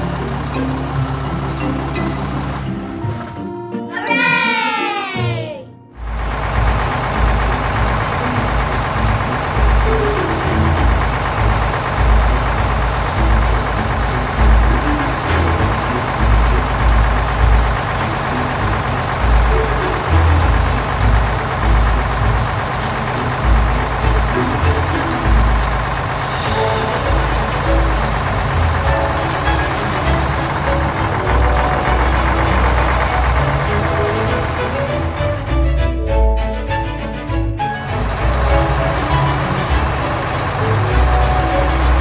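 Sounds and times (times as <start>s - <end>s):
large vehicle engine rumbling: 0.0s - 3.6s, 5.9s - 42.0s.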